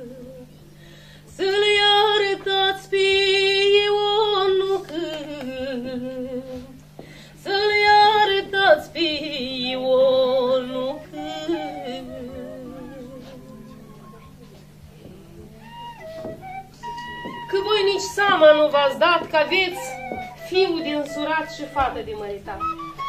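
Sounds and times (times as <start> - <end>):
woman singing folk melody: 0.0 - 6.8, 7.4 - 16.4, 17.3 - 23.0
low electrical hum: 0.0 - 23.0.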